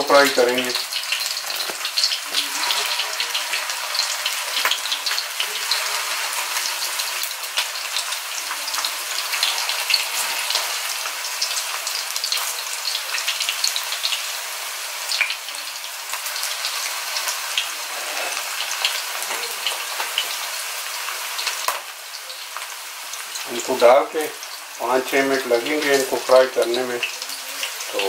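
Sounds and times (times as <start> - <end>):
kebabs sizzling in hot oil: 0.0 - 28.0.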